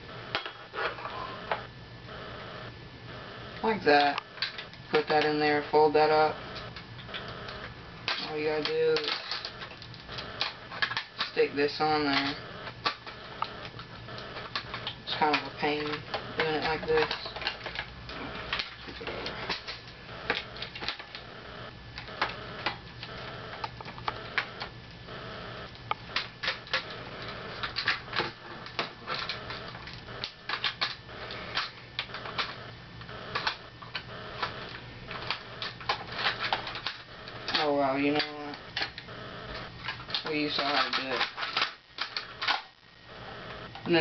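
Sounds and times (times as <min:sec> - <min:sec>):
plastic parts clicking and clattering: 0:04.0 - 0:05.6, 0:06.6 - 0:21.3, 0:22.0 - 0:24.7, 0:25.7 - 0:32.6, 0:33.3 - 0:42.8.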